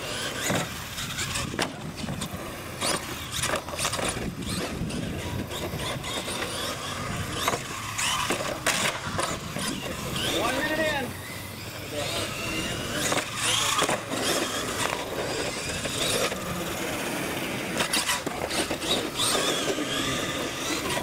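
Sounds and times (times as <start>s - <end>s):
tires scrubbing on concrete: 0.0s - 21.0s
toy truck motor whining: 0.0s - 21.0s.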